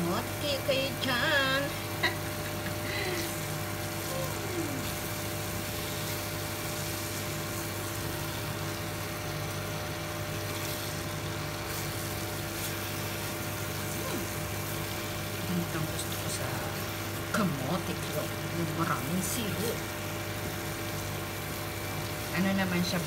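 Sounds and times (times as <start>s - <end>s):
induction cooktop humming: 0.0s - 23.0s.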